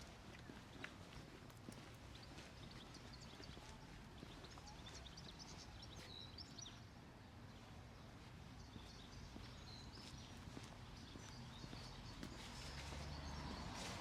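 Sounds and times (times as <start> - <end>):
small birds chirping: 0.2 - 6.9, 8.0 - 14.0.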